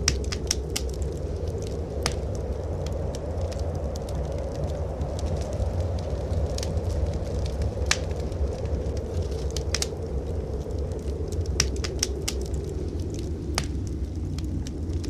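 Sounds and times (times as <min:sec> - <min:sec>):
blizzard wind rumbling: 0:00.0 - 0:15.0
wood fire crackling: 0:00.0 - 0:15.0.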